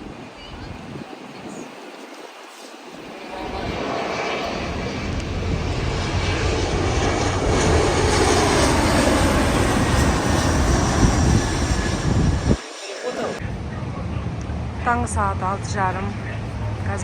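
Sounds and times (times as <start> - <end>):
jet engines rushing and rumbling: 0.0 - 17.0.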